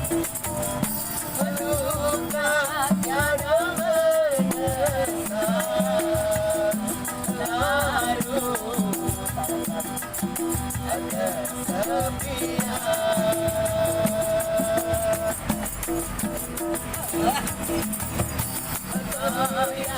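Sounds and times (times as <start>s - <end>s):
person singing ornamented melody: 0.0s - 17.6s, 18.7s - 19.9s.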